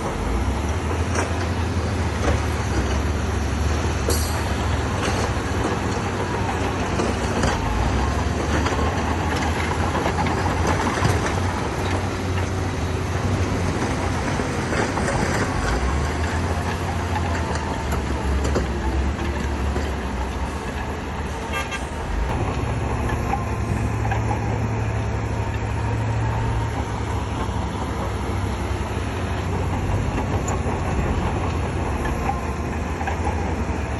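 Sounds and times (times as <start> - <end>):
heavy machinery engine running: 0.0 - 33.9
machinery clanks and knocks: 0.0 - 33.9.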